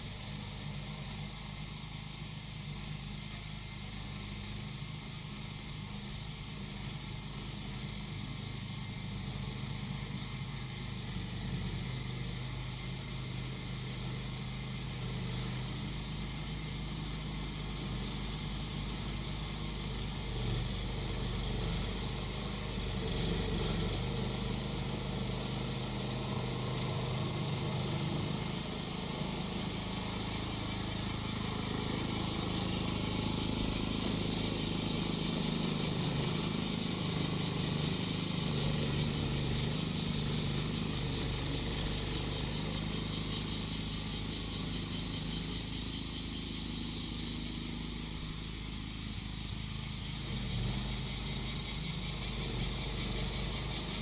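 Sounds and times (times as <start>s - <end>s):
cicadas singing: 0.0s - 54.0s
grass cutter engine running: 0.0s - 54.0s.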